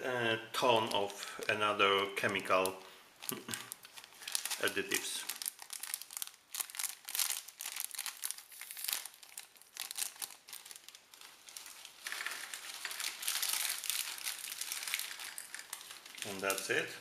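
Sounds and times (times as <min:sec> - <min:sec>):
foil pouch crinkling: 0:02.3 - 0:16.8.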